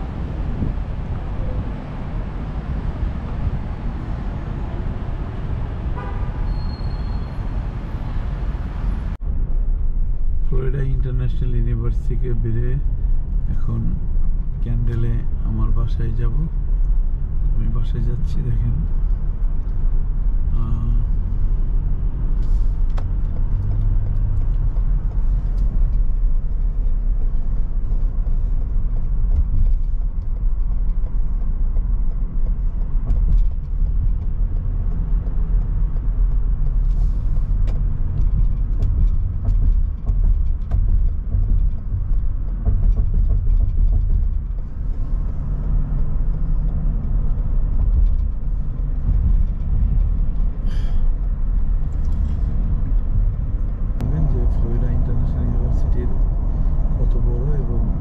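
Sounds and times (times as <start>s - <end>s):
car driving on highway: 0.0s - 58.0s.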